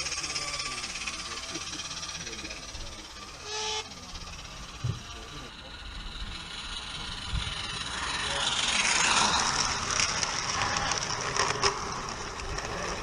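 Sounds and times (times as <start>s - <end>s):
steam train rushing past: 0.0s - 13.0s
wagons rattling over track: 0.0s - 13.0s.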